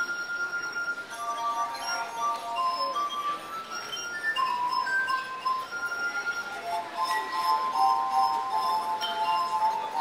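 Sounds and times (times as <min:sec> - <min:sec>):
music with bell-like tones: 0:00.0 - 0:10.0.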